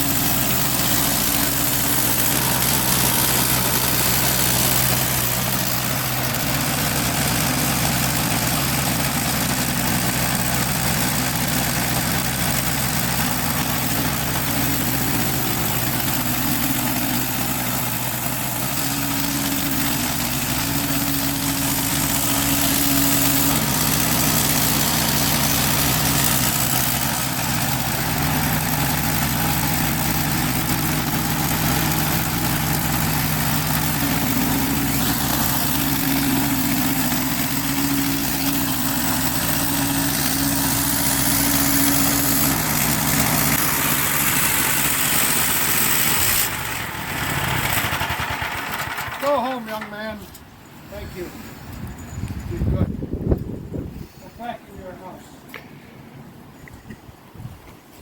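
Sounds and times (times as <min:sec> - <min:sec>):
band sawmill cutting log: 0:00.0 - 0:50.2.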